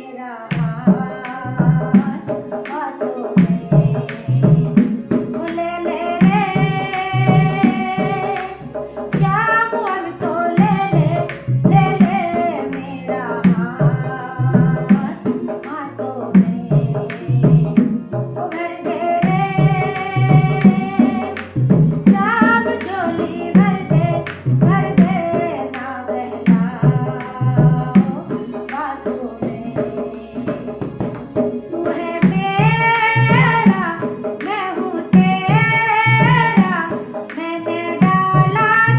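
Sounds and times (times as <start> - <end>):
woman singing over music: 0.0 - 38.9
percussion beat: 0.5 - 38.9.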